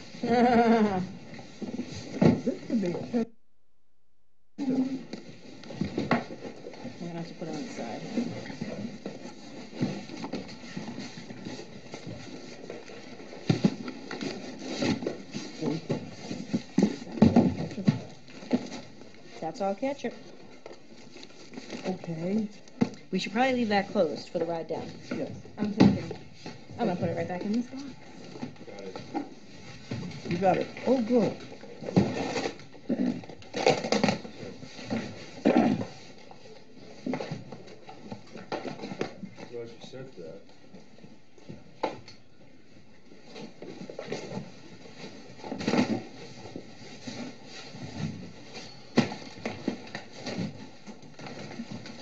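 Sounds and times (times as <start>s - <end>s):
items knocking and clunking: 0.0s - 3.2s, 4.7s - 39.6s, 40.4s - 52.0s
packaging rustling: 5.0s - 19.4s, 20.0s - 23.2s, 24.3s - 39.5s, 40.5s - 52.0s.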